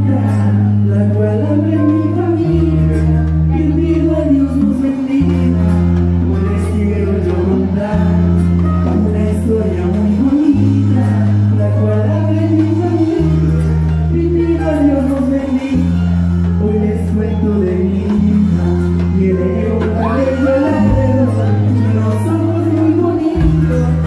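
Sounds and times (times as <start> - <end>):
deep bass line: 0.0 - 24.0
people singing: 0.0 - 24.0
percussion: 0.0 - 24.0.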